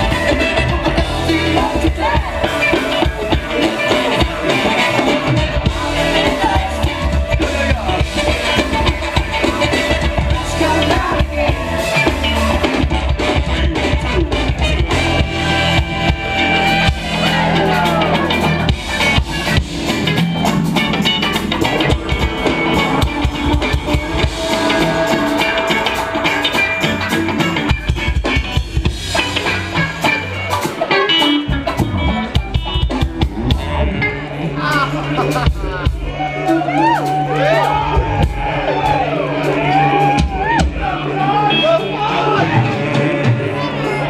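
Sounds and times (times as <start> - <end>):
drum kit: 0.0 - 44.0
funk band playing: 0.0 - 44.0
guitar: 0.0 - 44.0.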